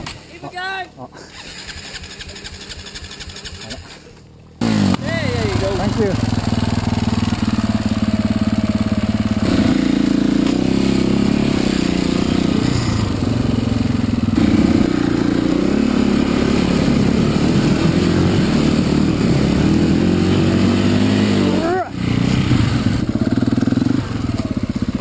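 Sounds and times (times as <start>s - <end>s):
motorcycle engine running: 1.4s - 25.0s.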